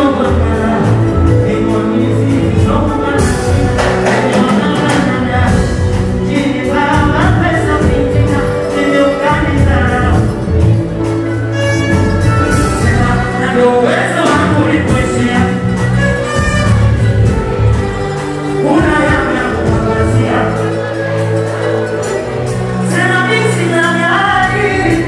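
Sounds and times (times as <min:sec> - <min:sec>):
man singing into a microphone: 0:00.0 - 0:10.7, 0:11.8 - 0:17.0, 0:18.6 - 0:21.1, 0:22.7 - 0:25.0
loud backing track: 0:00.0 - 0:25.0.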